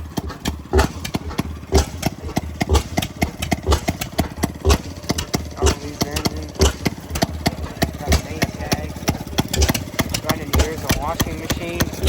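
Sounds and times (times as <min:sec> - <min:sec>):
stationary engine running slowly: 0:00.0 - 0:12.0.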